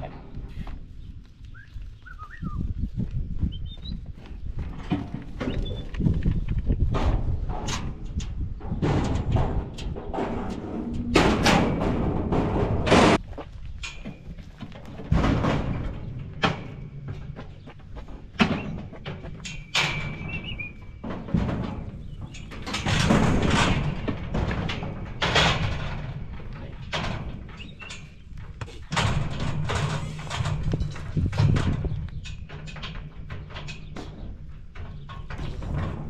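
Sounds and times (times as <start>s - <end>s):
metal panels banging and rattling: 4.6s - 13.2s, 13.8s - 36.0s.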